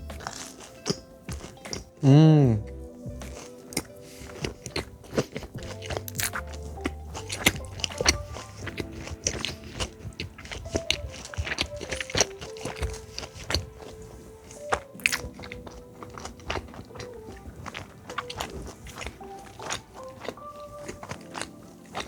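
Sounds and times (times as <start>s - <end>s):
crunching and chewing food: 0.0s - 22.0s
soft background music: 0.0s - 22.0s.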